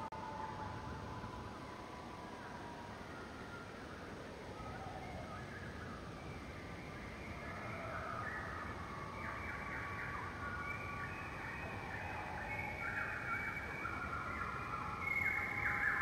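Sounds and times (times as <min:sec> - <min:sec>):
flock of birds chirping: 0:01.9 - 0:16.0.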